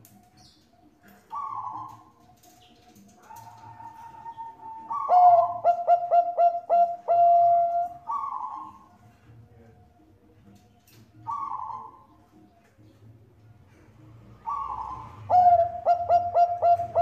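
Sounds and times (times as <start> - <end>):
dove cooing: 0.8 - 9.9, 11.2 - 13.0, 13.7 - 17.0.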